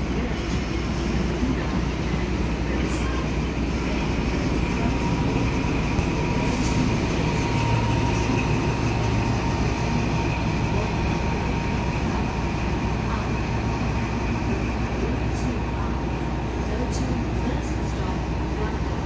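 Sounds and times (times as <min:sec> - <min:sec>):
diesel train engine rumble: 0:00.0 - 0:19.0
high train whine: 0:00.0 - 0:19.0.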